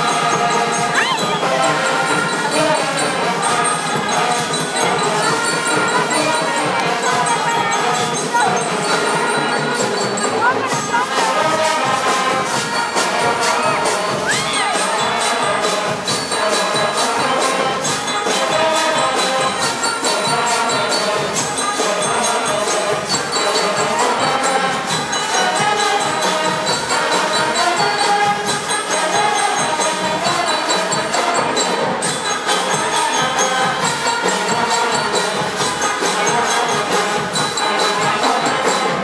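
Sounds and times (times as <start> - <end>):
band playing music: 0.0 - 39.0
jingling percussion: 0.0 - 39.0.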